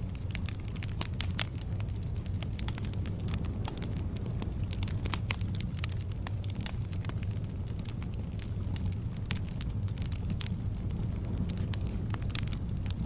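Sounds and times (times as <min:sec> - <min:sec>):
low rumble of burning: 0:00.0 - 0:13.0
wood fire crackling and popping: 0:00.0 - 0:13.0.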